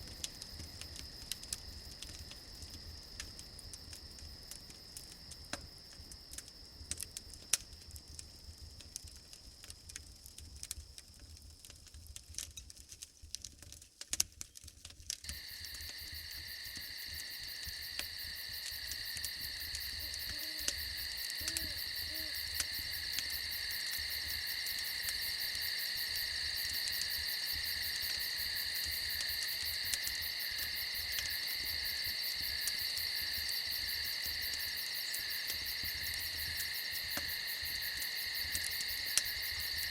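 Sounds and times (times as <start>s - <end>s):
crickets chirping trill: 0.0s - 11.6s, 15.2s - 39.9s
faint high insect tone: 0.0s - 12.2s, 15.2s - 39.9s
campfire crackling: 0.0s - 39.9s.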